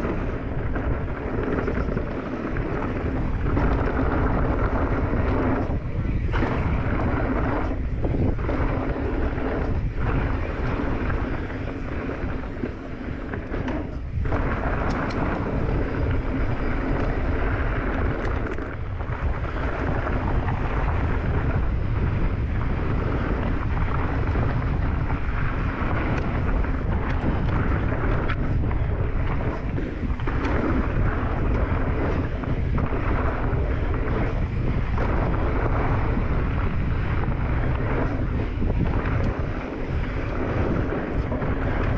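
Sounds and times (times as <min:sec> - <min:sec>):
tyres rumbling on dirt: 0:00.0 - 0:41.9
wind buffeting microphone: 0:00.0 - 0:41.9.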